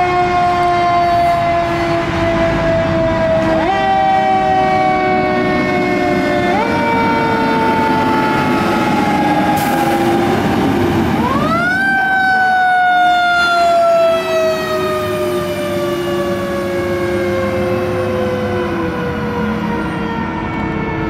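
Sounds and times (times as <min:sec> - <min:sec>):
fire truck siren wailing: 0:00.0 - 0:21.0
heavy truck engine: 0:00.0 - 0:21.0.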